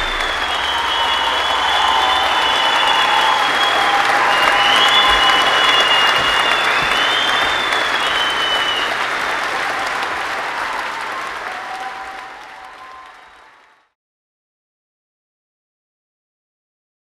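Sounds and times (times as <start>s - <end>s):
crowd applauding: 0.0s - 14.0s.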